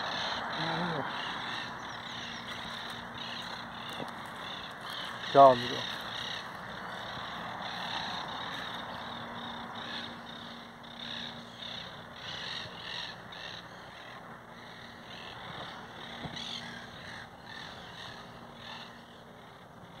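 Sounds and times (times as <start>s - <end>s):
parakeets chattering: 0.0s - 20.0s.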